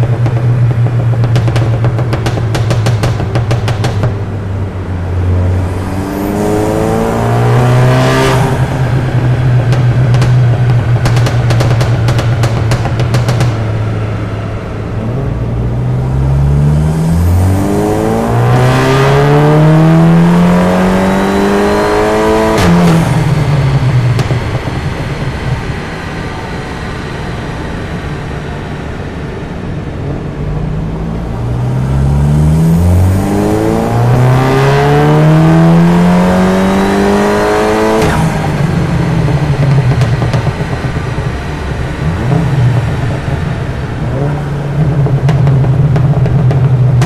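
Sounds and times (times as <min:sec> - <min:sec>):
car engine revving: 0:00.0 - 0:47.0
exhaust crack: 0:00.0 - 0:47.0.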